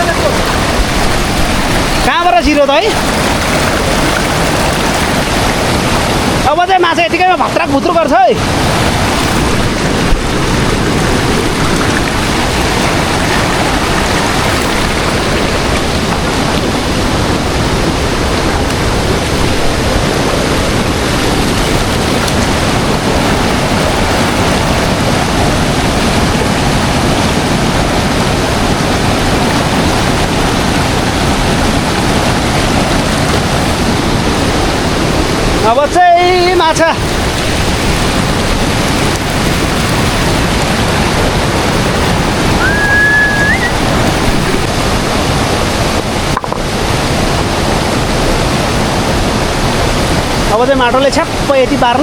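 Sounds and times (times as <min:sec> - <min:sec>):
rushing river water: 0:00.0 - 0:52.0.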